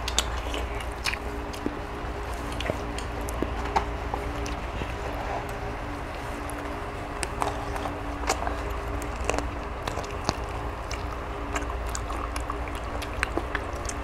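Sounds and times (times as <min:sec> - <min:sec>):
people eating by hand: 0:00.0 - 0:14.0
steady low hum: 0:00.0 - 0:14.0.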